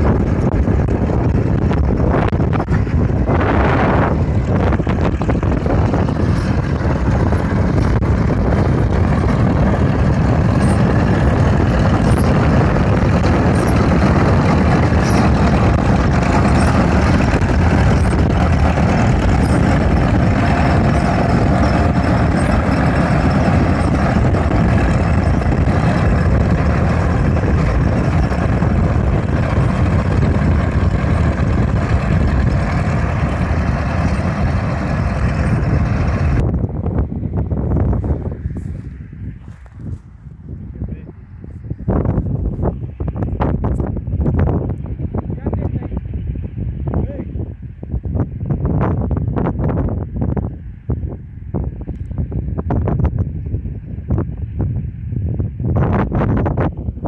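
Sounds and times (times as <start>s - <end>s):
windrower engine and cutter running: 0.0s - 57.0s.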